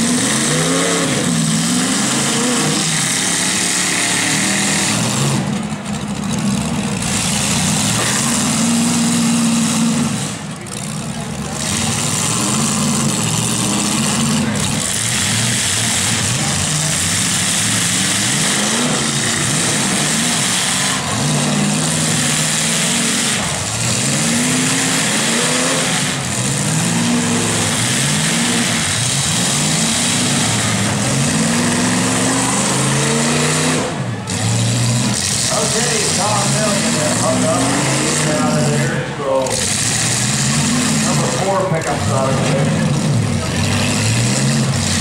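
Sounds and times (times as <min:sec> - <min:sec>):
truck engines revving: 0:00.0 - 0:45.0.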